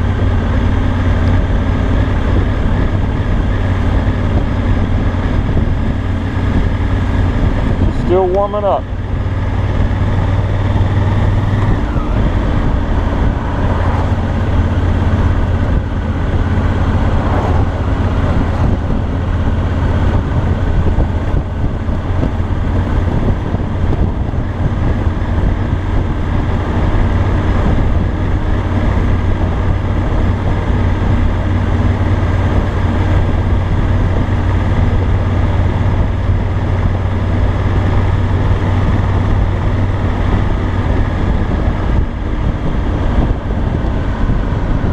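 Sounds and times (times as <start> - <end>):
motorcycle engine at low revs: 0.0 - 44.9.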